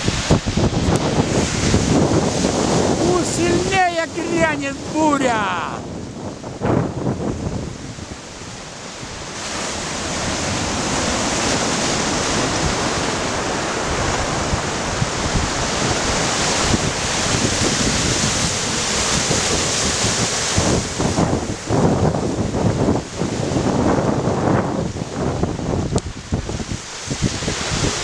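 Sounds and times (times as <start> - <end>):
stormy sea surf: 0.0 - 28.0
wind on microphone: 0.0 - 28.0.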